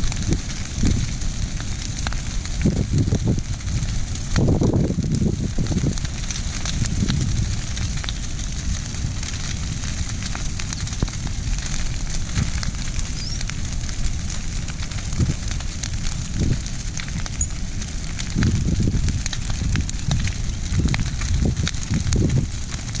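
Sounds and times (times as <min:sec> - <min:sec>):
fire crackling and popping: 0:00.0 - 0:23.0
steady low rumble: 0:00.0 - 0:23.0.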